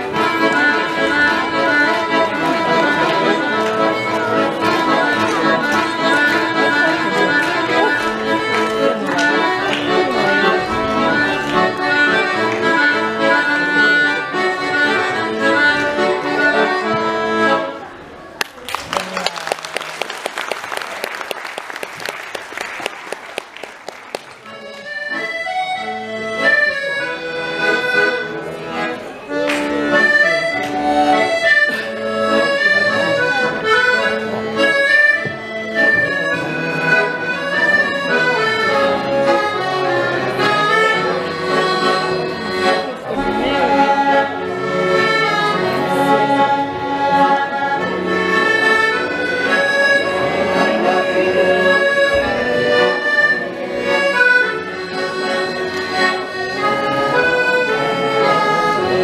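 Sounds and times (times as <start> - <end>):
accordion melody: 0.0 - 59.0.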